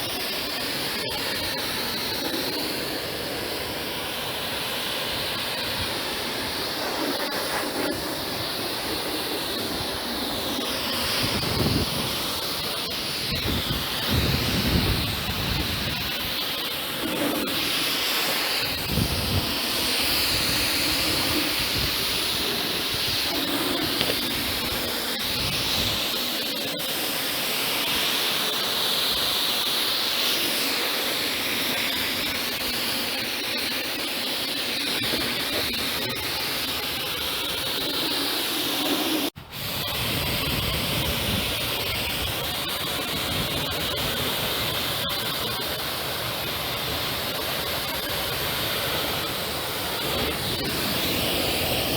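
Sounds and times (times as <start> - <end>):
pressure washer spraying water: 0.0 - 51.9.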